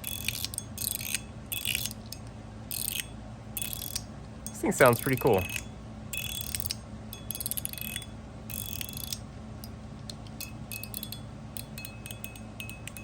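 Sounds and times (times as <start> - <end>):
metal fidget slider clicking: 0.0 - 13.0.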